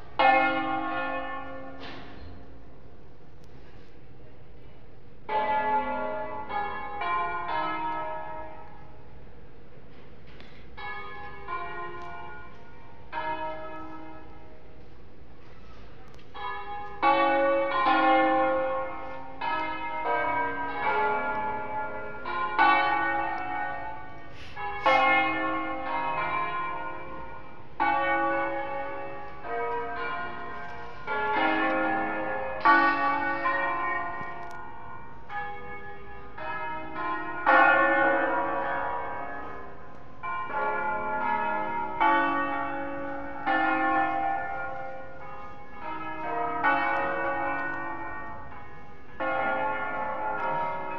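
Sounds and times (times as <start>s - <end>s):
church bells ringing a peal: 0.0s - 3.0s, 5.2s - 50.9s.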